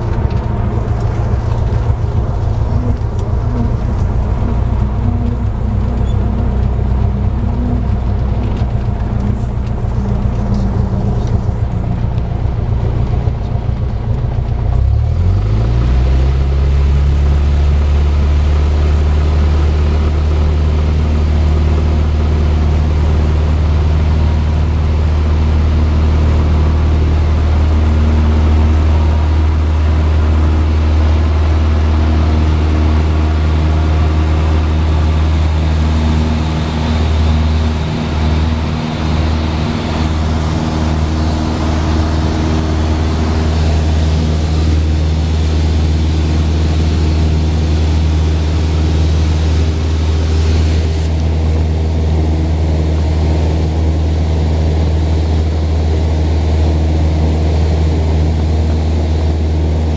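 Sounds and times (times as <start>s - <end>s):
aircraft piston engine and propeller: 0.0s - 59.9s.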